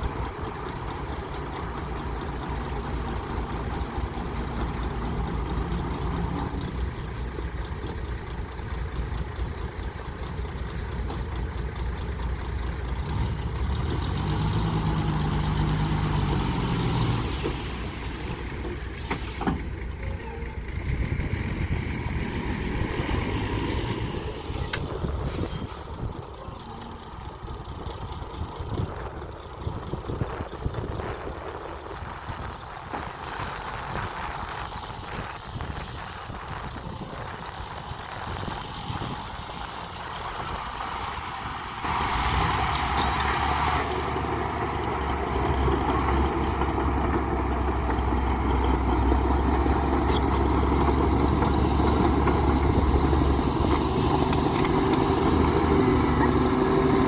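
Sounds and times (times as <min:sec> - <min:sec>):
bulldozer diesel engine revving: 0:00.0 - 0:57.0.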